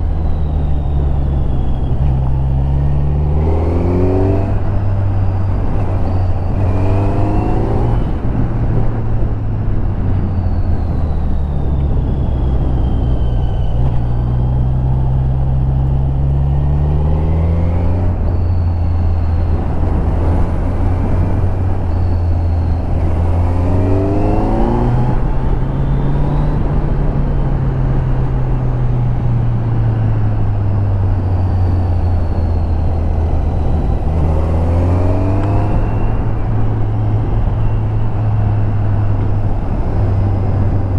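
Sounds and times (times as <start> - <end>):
motorcycle engine revving: 0.0 - 29.3, 30.4 - 40.9.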